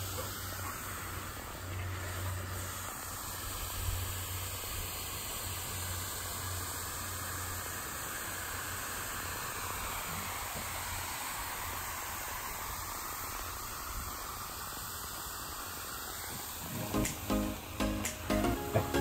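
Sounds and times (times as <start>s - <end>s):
sprinkler spraying water: 0.0s - 19.0s.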